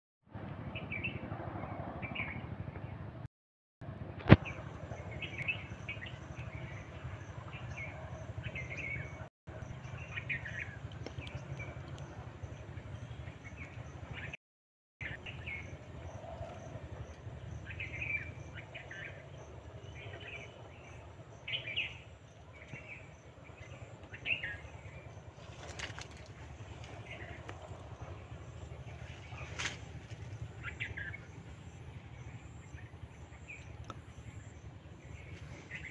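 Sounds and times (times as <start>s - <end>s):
steady low rumble: 0.3s - 14.4s, 15.0s - 35.9s.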